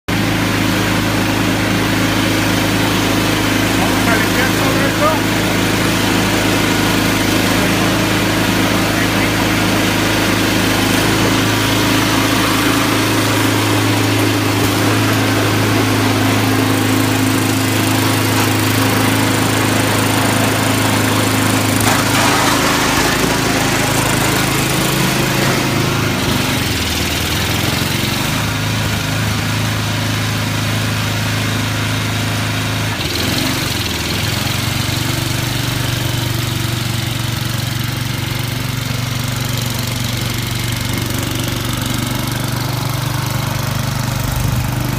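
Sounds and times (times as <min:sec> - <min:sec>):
small engine running: 0:00.1 - 0:44.9.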